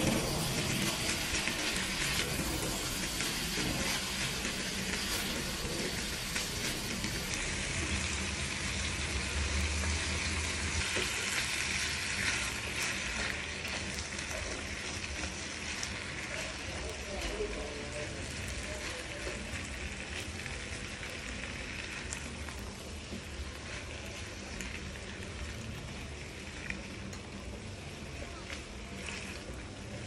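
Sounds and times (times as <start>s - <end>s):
chicken and vegetables sizzling: 0.0s - 30.0s
spatula stirring in pan: 0.0s - 30.0s.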